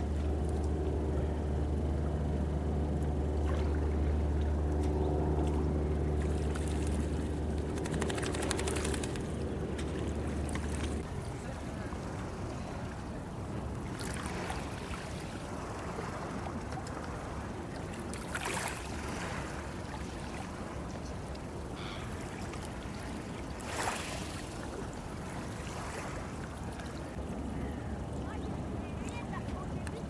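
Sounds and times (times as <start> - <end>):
low rumble of wind and water: 0.0 - 30.0
small waves splashing: 3.3 - 30.0.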